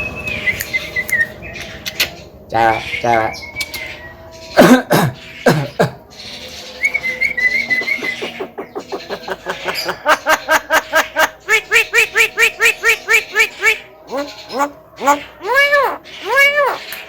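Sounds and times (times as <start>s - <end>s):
myna bird calling: 0.0s - 17.0s.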